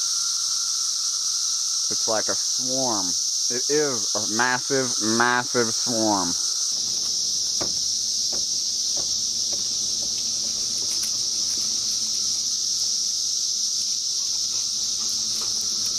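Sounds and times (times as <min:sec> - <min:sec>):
cicadas high-pitched drone: 0:00.0 - 0:15.9.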